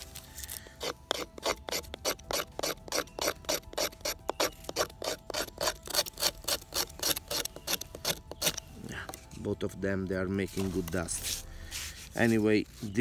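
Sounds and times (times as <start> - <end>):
knife scraping wood: 0.3 - 9.4, 10.5 - 13.0.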